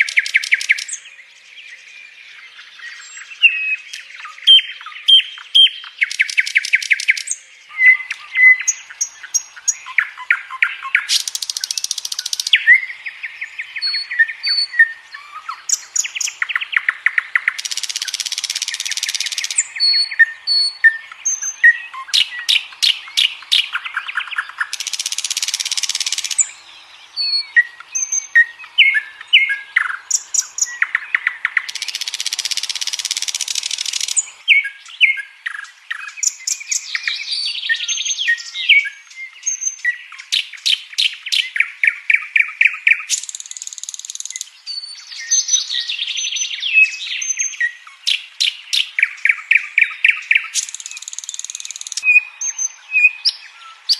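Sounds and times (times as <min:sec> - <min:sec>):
nightingale singing: 0:00.0 - 0:53.9.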